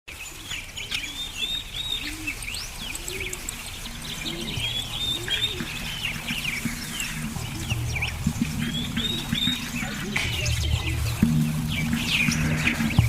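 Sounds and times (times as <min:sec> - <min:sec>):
birds chirping and twittering: 0:00.1 - 0:13.0
low cooing calls: 0:00.2 - 0:13.0.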